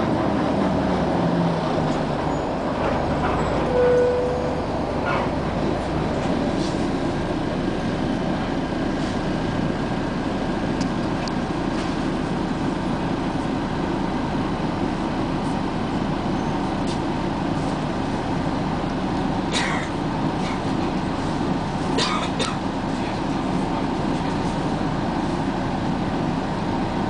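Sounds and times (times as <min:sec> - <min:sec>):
moving vehicle rumble: 0:00.0 - 0:27.0.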